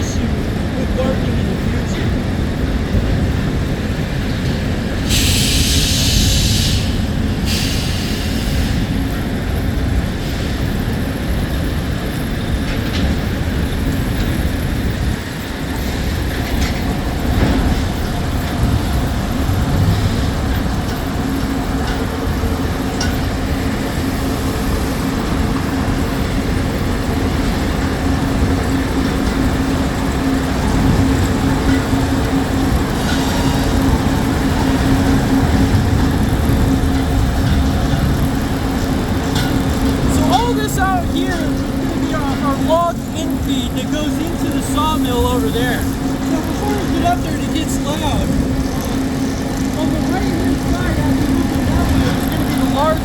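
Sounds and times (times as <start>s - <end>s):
sawmill machinery rumble: 0.0s - 53.0s.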